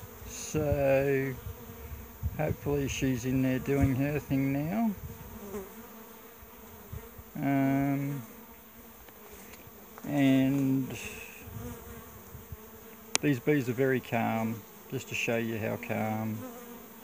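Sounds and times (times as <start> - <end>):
bee flying past microphone: 0.0 - 14.9, 15.8 - 17.0
honey bees buzzing: 0.0 - 17.0.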